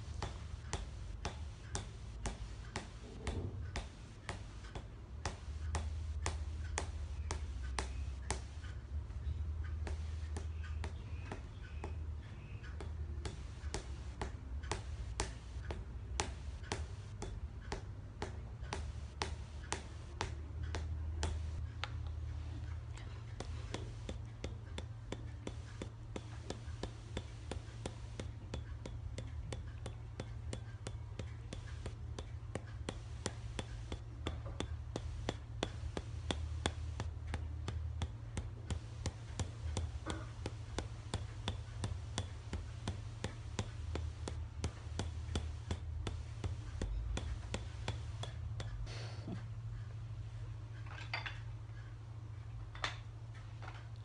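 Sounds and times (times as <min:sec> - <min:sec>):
wooden mallet tapping wooden wedge: 0:00.0 - 0:08.8, 0:09.5 - 0:48.9.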